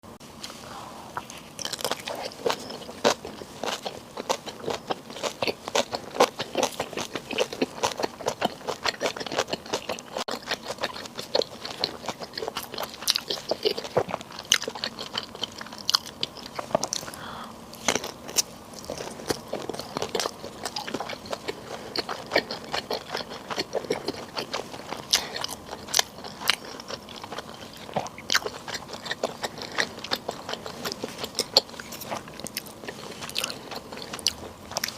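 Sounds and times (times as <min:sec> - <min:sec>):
mouth clicks and crunches: 0:01.2 - 0:34.9
person biting and chewing: 0:01.2 - 0:34.9.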